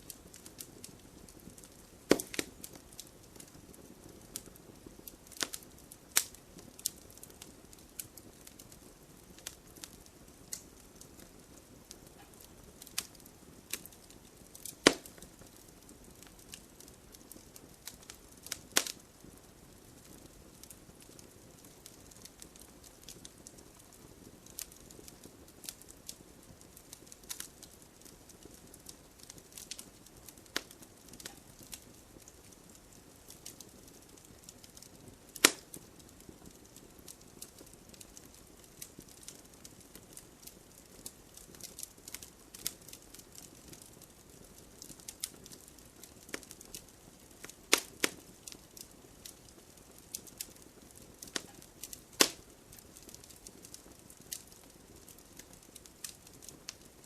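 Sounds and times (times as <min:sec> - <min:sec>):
hiss of flames: 0:00.0 - 0:57.0
wood crackling and popping: 0:00.0 - 0:57.0.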